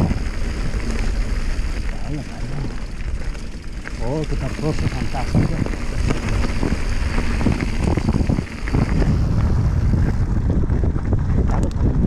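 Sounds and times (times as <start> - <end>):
tyres rolling over leaves: 0.0 - 11.2
bike knocking and rattling: 0.0 - 12.0
wind buffeting microphone: 0.0 - 12.0.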